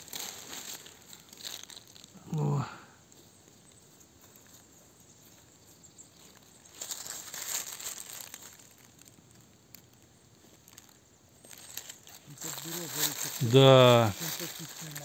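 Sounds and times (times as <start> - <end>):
dry leaves rustling and crackling: 0.0 - 2.6, 3.2 - 15.0.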